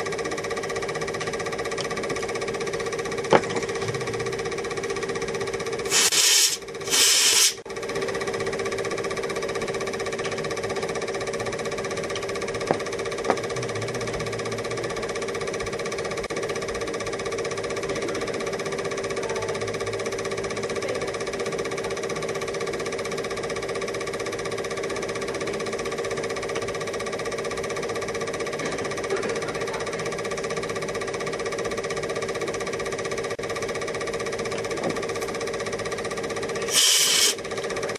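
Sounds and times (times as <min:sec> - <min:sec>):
film projector whirring: 0:00.0 - 0:37.9.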